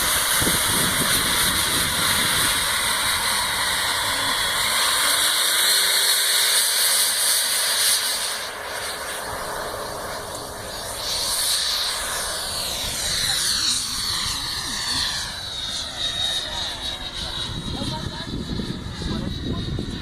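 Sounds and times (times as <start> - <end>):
electric ducted fan whooshing: 0.0 - 20.0.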